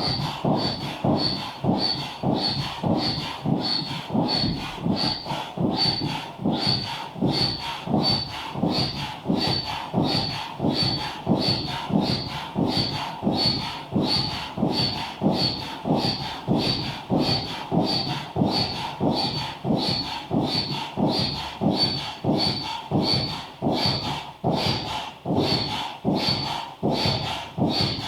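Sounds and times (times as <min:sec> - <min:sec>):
manual air pump strokes: 0:00.0 - 0:28.0.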